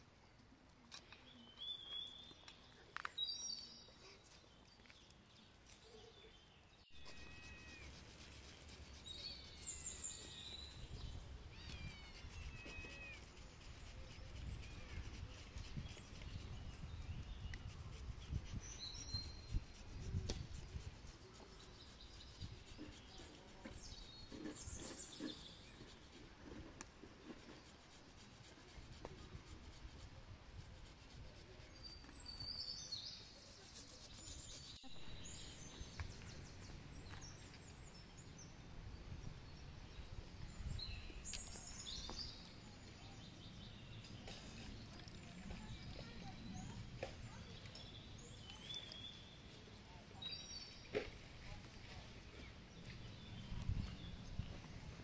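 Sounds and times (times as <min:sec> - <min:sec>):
small birds chirping: 0:00.2 - 0:55.0.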